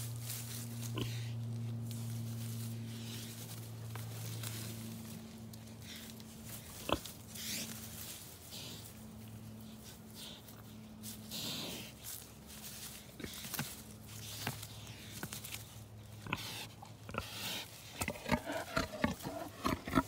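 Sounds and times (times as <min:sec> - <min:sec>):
low steady hum: 0:00.0 - 0:20.0
pig snuffling in leaves: 0:00.0 - 0:20.0.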